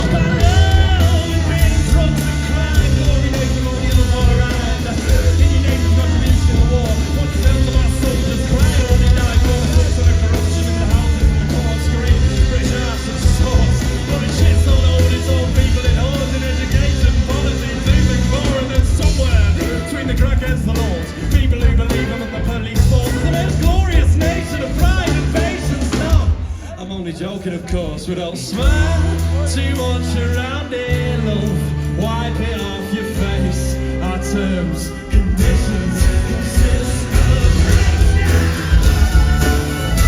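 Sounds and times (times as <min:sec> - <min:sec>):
live rock band playing: 0:00.0 - 0:26.7, 0:27.8 - 0:40.0
person singing: 0:00.0 - 0:40.0.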